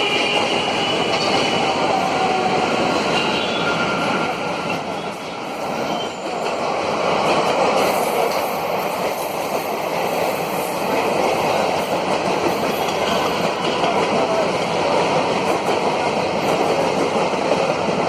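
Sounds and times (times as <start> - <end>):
train rushing along track: 0.0 - 18.0.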